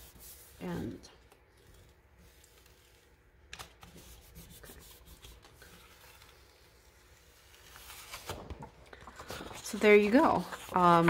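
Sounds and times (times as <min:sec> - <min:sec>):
paper peeling off a plate: 0:01.2 - 0:11.0.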